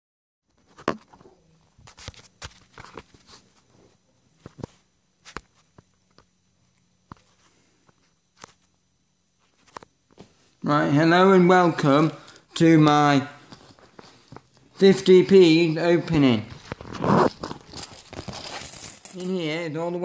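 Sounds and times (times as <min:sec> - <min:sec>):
faint low hum: 0:00.5 - 0:20.0.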